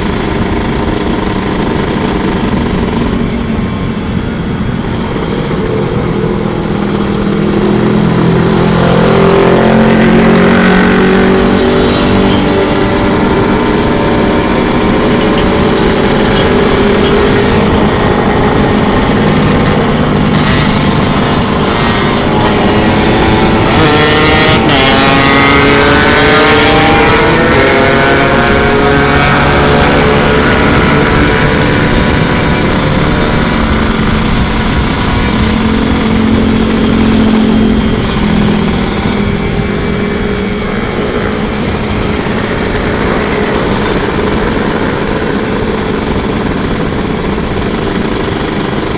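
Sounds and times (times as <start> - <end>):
two-stroke motorcycle engine: 0.0 - 48.9.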